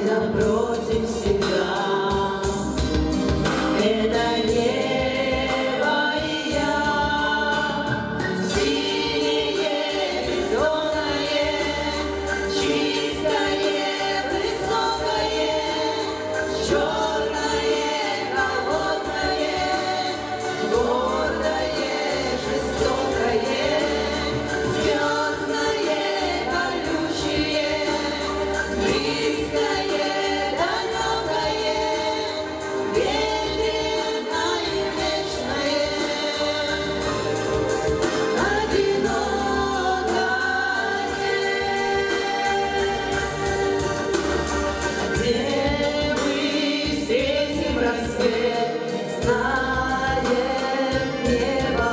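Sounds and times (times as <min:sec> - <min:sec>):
women singing in harmony: 0:00.0 - 0:51.9
low bass accompaniment: 0:02.4 - 0:46.2.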